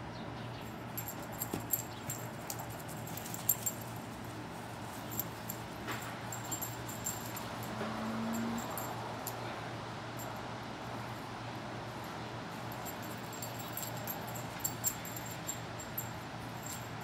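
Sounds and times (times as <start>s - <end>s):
steady low hum: 0.0s - 17.0s
dog collar tags jingling: 0.6s - 9.5s, 12.1s - 17.0s.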